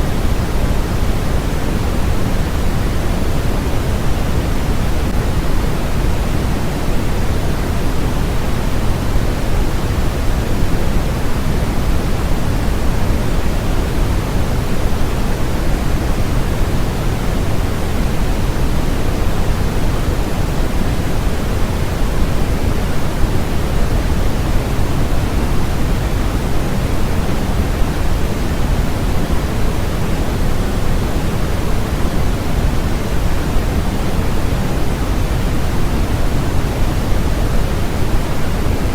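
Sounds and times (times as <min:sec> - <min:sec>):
steady synthetic pink noise: 0:00.0 - 0:38.9.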